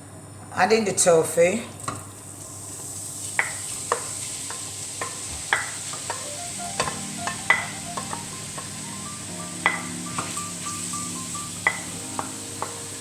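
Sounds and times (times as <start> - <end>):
tofu sizzling in oil: 1.9 - 13.0.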